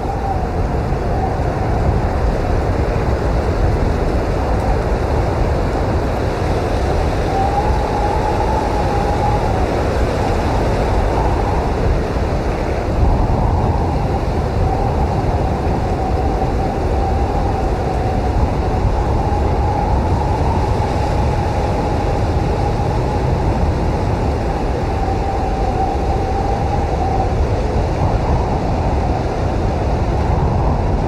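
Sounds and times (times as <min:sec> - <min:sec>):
blizzard wind blowing: 0:00.0 - 0:31.0.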